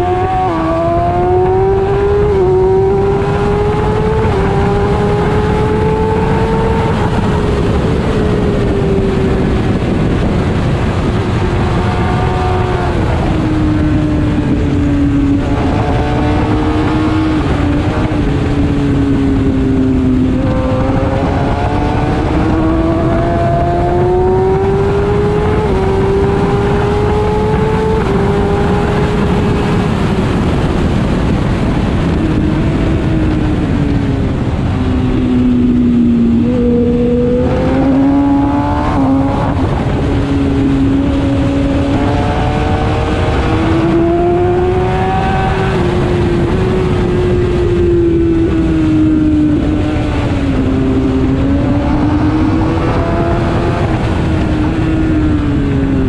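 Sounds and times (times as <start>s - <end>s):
heavy wind rush: 0.0s - 56.0s
motorcycle engine revving: 0.0s - 56.0s.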